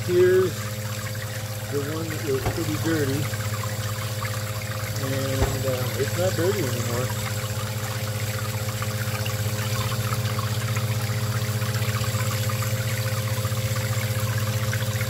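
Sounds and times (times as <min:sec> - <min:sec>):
pump humming: 0:00.0 - 0:15.0
water splashing and trickling: 0:00.0 - 0:15.0.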